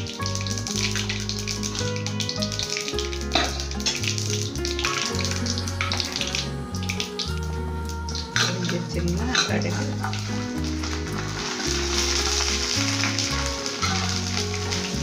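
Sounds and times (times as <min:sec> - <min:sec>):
background music with bass line: 0:00.0 - 0:15.0
hot oil sizzling and crackling: 0:00.0 - 0:15.0.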